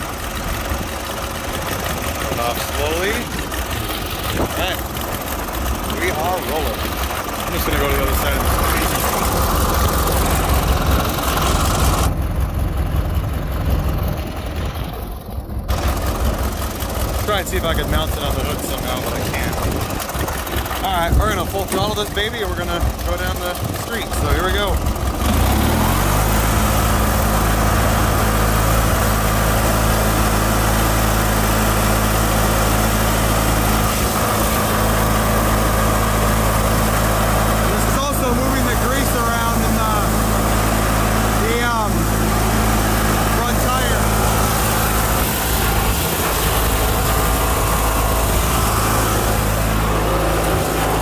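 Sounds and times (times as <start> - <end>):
lawn tractor engine running: 0.0 - 51.0.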